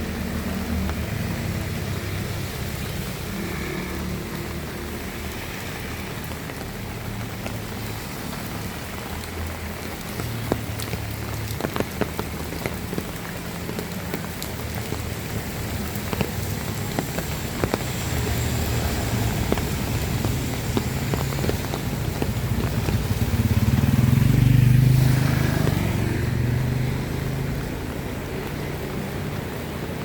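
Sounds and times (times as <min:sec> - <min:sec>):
heavy rain falling: 0:00.0 - 0:30.0
large raindrops ticking: 0:00.0 - 0:30.0.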